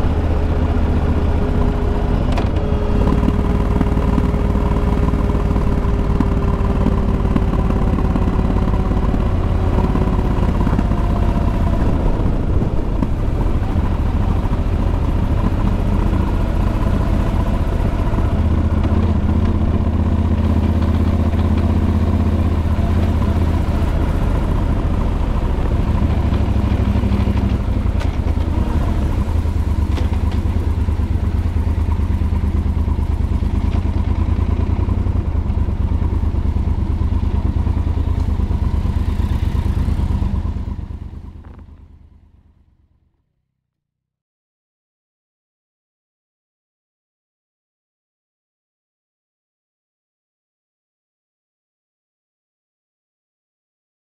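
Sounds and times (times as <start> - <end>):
engine droning: 0.0 - 43.3.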